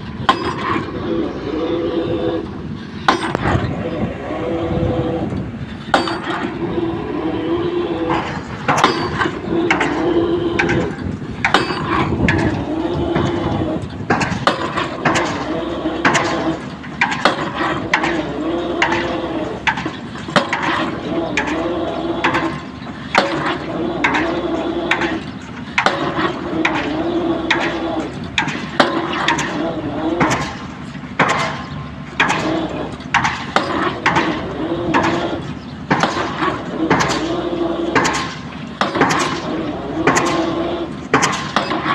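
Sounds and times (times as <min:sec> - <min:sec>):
metallic clanks and knocks: 0:00.0 - 0:01.0, 0:02.8 - 0:03.8, 0:05.3 - 0:06.6, 0:08.0 - 0:41.9
excavator hydraulic drone: 0:00.0 - 0:41.9.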